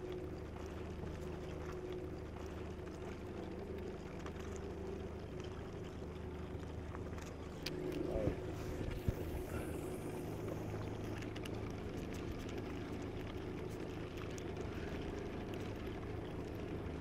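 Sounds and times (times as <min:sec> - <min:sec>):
boat motor humming: 0:00.0 - 0:17.0
water lapping around hull: 0:00.0 - 0:17.0.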